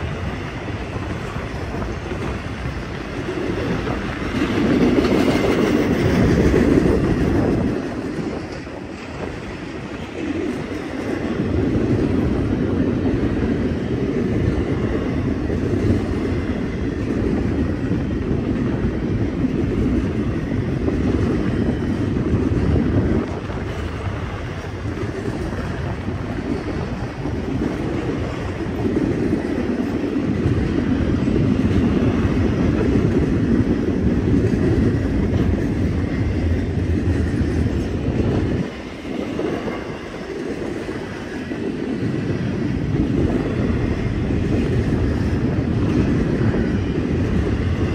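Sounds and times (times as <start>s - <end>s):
freight train rumbling past: 0.0s - 47.9s.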